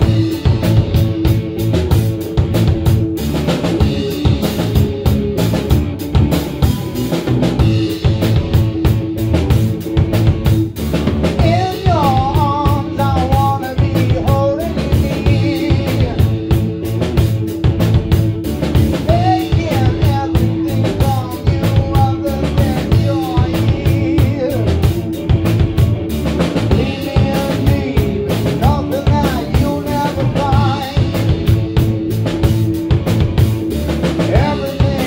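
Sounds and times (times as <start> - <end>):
bass guitar: 0.0 - 35.0
drum kit hits: 0.0 - 35.0.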